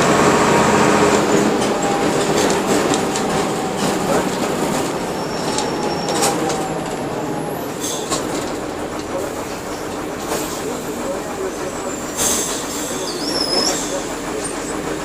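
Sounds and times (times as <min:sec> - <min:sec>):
bus body rattling and squeaking: 0:00.0 - 0:15.0
bus diesel engine running: 0:00.0 - 0:15.0.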